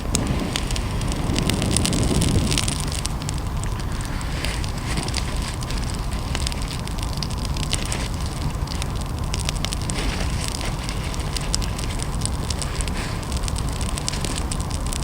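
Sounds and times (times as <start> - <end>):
campfire crackling and popping: 0.0 - 15.0
low rumble: 0.0 - 15.0.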